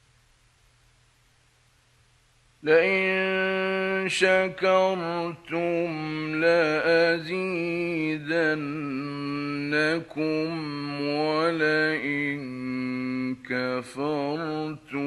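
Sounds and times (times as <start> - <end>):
man chanting melodic recitation: 2.6 - 15.0.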